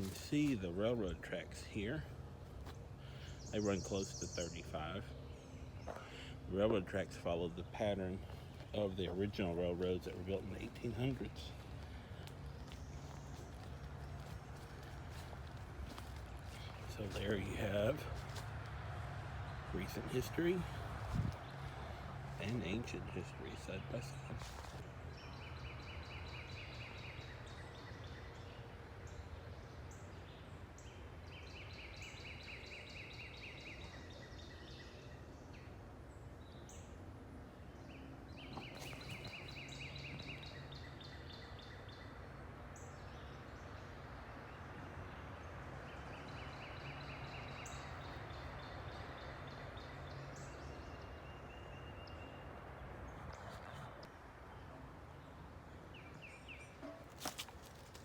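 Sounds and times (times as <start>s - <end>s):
distant machinery hum: 0.0s - 58.0s.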